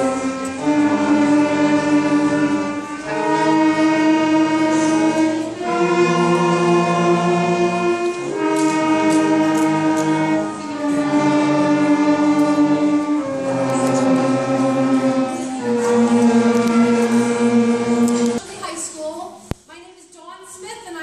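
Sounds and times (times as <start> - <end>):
concert band playing held chords: 0.0 - 18.4.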